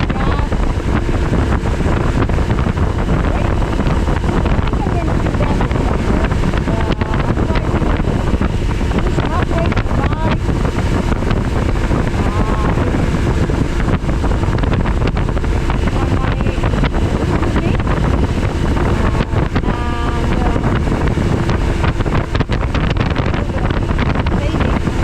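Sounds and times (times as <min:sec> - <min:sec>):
motorcycle engine drone: 0:00.0 - 0:25.0
wind rushing over microphone: 0:00.0 - 0:25.0.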